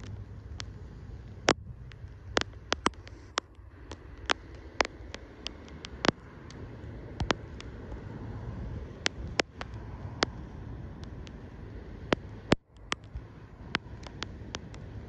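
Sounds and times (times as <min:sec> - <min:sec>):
low wind rumble: 0:00.0 - 0:15.0.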